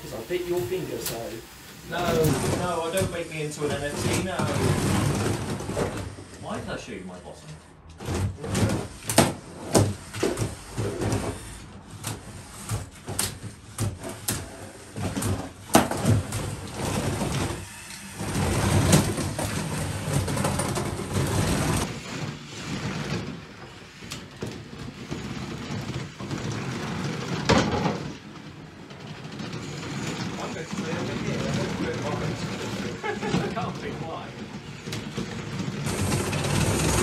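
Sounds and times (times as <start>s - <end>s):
robots grinding and scraping: 0.1s - 37.0s
plastic robots knocking and clattering: 2.0s - 6.3s, 7.9s - 37.0s.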